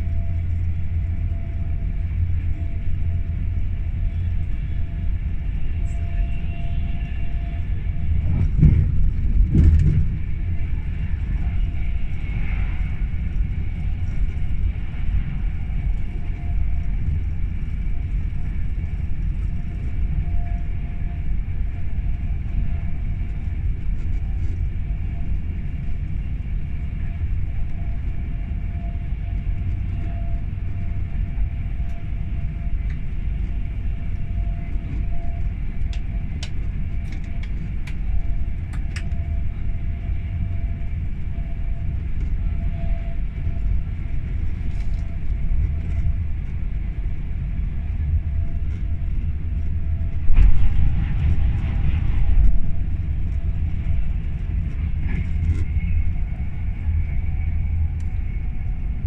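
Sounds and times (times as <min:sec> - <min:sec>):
train cabin rumble: 0:00.0 - 0:59.0.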